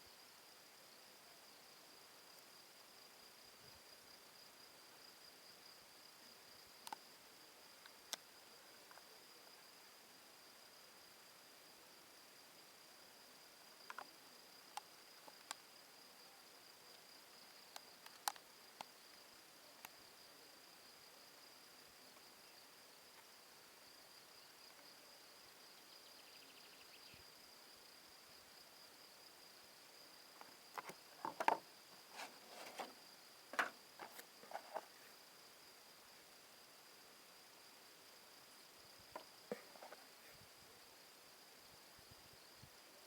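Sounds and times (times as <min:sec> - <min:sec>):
faint high-pitched whine: 0:00.0 - 0:43.0.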